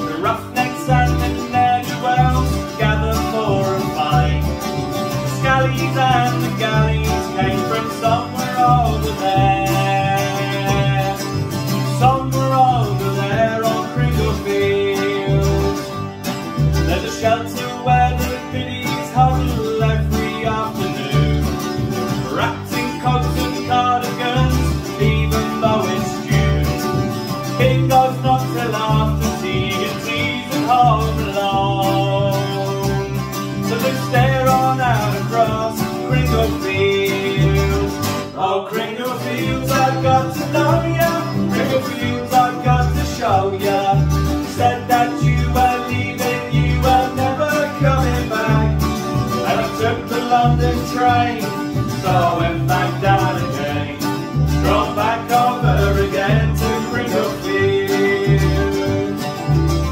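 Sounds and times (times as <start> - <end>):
mandolin picking melody: 0.0 - 59.9
plucked double bass: 0.0 - 59.9
strummed acoustic guitar: 0.0 - 59.9.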